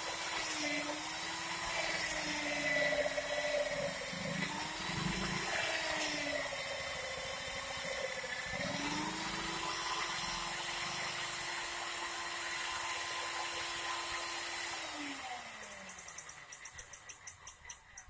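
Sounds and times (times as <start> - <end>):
rotary hammer motor whine: 0.0 - 18.0.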